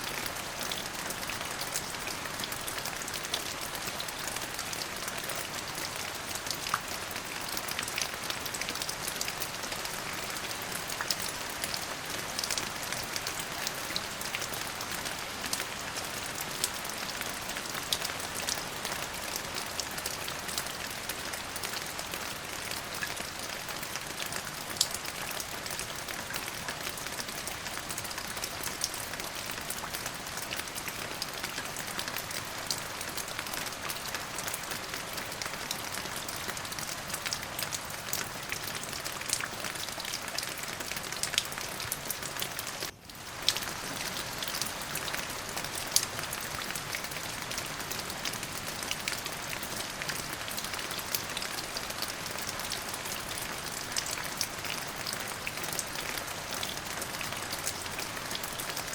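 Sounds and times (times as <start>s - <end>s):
raindrops ticking on a surface: 0.0s - 58.9s
steady rain falling: 0.0s - 58.9s.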